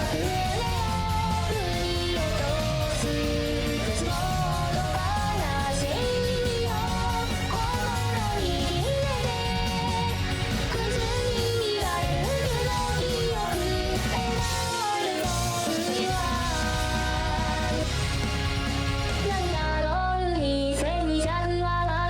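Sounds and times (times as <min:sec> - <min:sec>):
rock song with band: 0:00.0 - 0:21.4
synthesized singing voice: 0:00.0 - 0:22.0.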